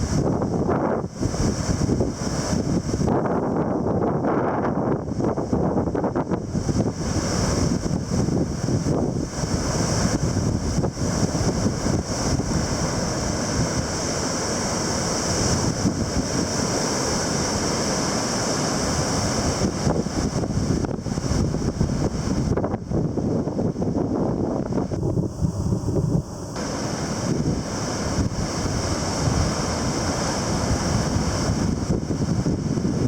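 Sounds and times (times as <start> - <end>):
heavy surf roaring: 0.0 - 33.0
wind buffeting microphone: 0.0 - 33.0.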